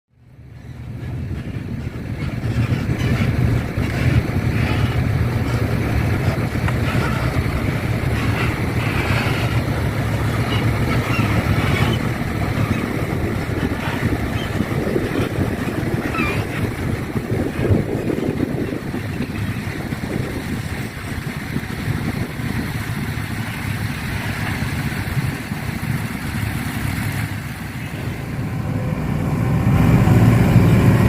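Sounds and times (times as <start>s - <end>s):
heavy machinery engine drone: 0.1s - 31.0s.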